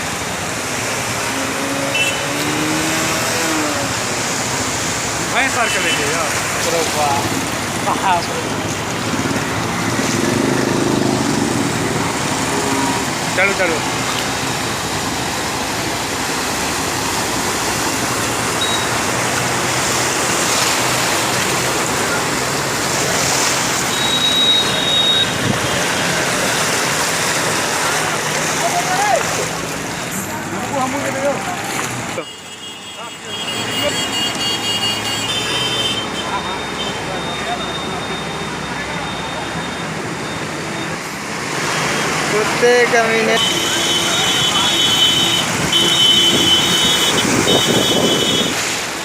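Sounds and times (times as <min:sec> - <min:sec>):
road traffic passing: 0:00.0 - 0:49.0
water rushing: 0:00.0 - 0:49.0.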